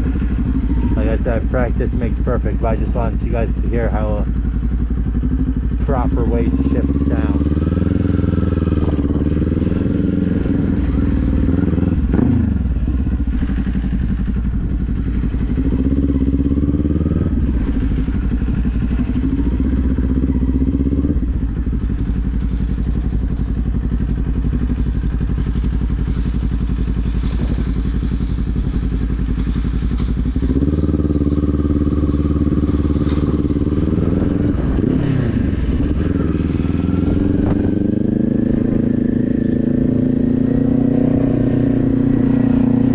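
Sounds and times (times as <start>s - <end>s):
motorcycle engine shifting gears: 0.0s - 42.9s.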